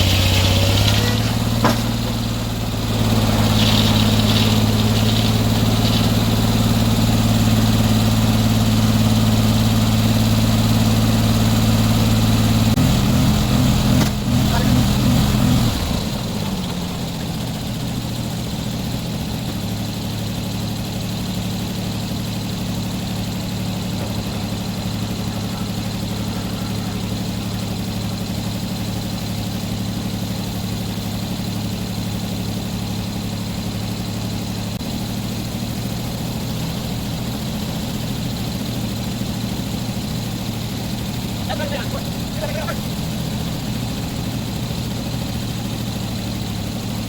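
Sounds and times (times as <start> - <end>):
sawmill engine running: 0.0 - 47.0.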